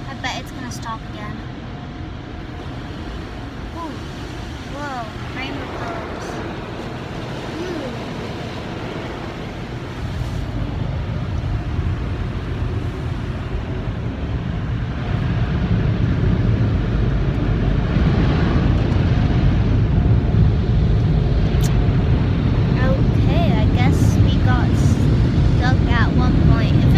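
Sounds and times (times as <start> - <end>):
car wash machinery roaring: 0.0 - 26.9.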